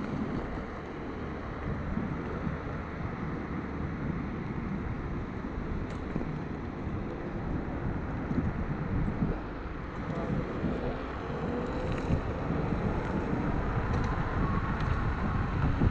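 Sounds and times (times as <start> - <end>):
electric scooter road rumble: 0.0 - 15.9
wind buffeting microphone: 0.0 - 15.9.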